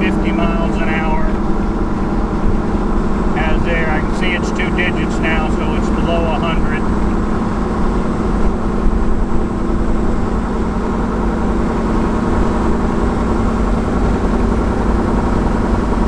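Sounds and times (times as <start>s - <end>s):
engine drone inside car cab: 0.0s - 16.0s
road rumble: 0.0s - 16.0s.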